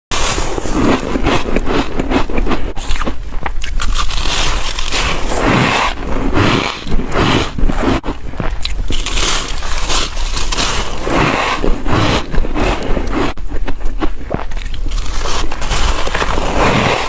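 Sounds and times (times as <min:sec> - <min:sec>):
crunching shaved ice: 0:00.1 - 0:17.0.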